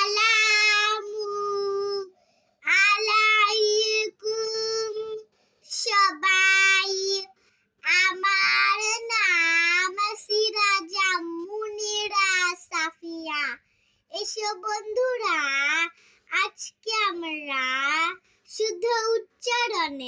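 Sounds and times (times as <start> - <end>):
child singing: 0.0 - 20.0.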